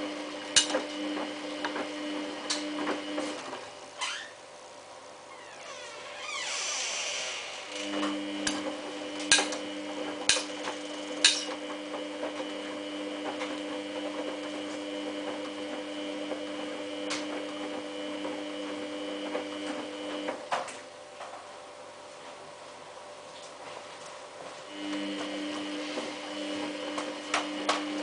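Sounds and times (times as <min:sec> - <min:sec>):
washing machine humming: 0:00.0 - 0:28.0.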